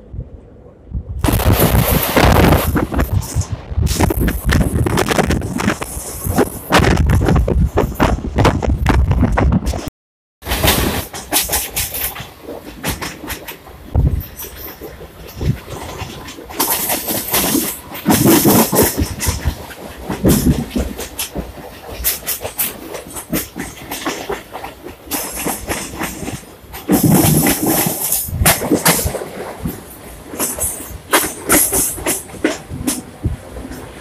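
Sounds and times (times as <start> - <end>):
train wheels clattering over rail joints: 1.2 - 34.0.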